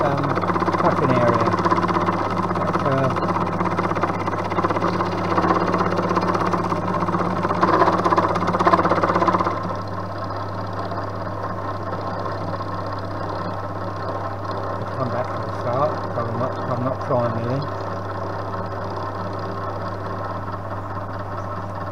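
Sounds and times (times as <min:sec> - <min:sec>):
milling machine motor hum: 0:00.0 - 0:21.9.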